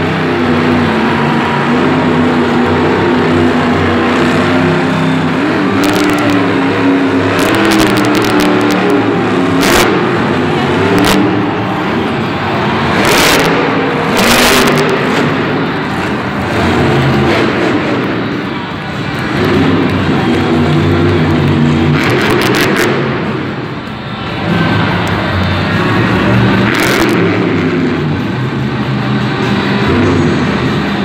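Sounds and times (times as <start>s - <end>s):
monster truck engine revving high: 0.0s - 31.0s.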